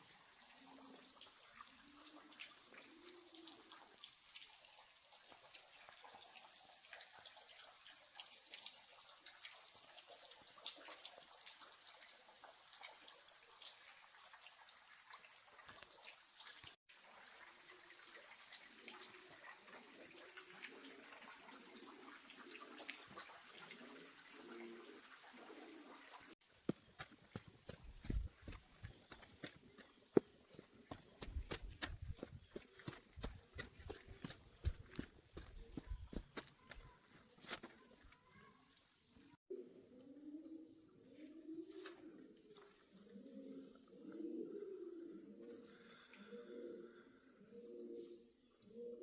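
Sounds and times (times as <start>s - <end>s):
small water drips: 0.0s - 39.4s, 41.7s - 43.8s
trickling water: 0.0s - 39.4s, 41.6s - 44.0s.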